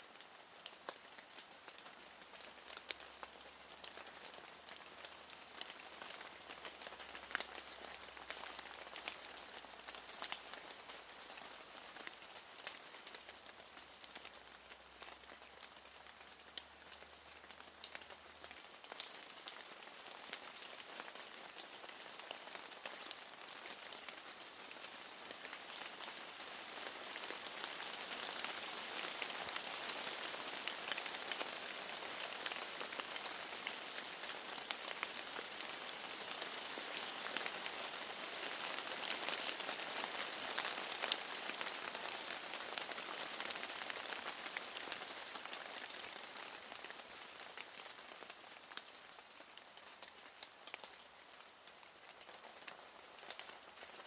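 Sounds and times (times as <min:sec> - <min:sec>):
raindrops striking: 0:00.0 - 0:54.0
steady rainfall: 0:00.0 - 0:54.0.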